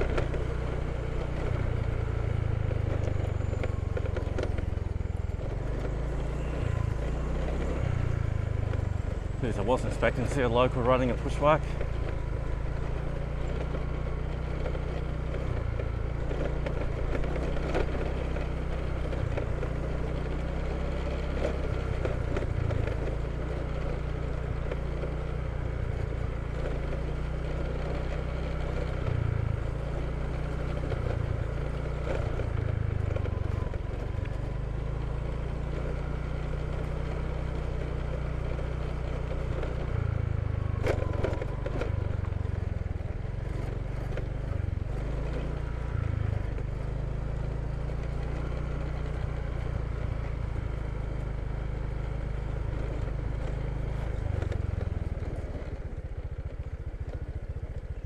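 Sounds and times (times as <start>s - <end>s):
scooter engine: 0.0s - 58.0s.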